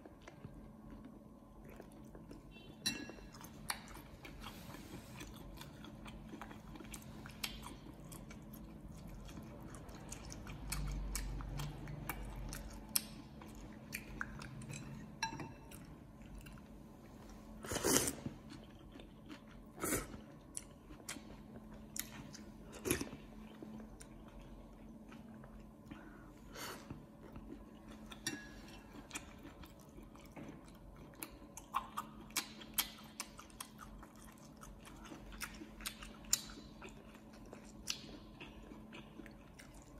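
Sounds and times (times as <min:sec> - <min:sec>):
faint steady hum: 0:00.0 - 0:39.9
person chewing noodles: 0:00.0 - 0:39.9.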